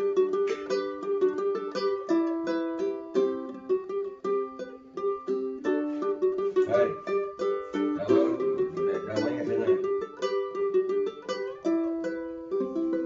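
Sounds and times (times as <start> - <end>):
ukulele picked melody: 0.0 - 13.0.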